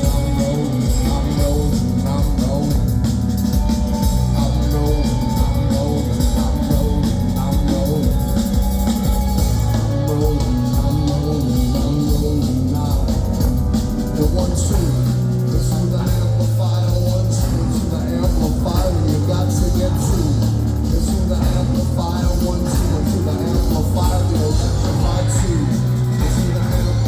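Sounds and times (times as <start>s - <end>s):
bass line: 0.0s - 27.0s
drum beat: 0.0s - 27.0s
rock band playing live: 0.0s - 27.0s.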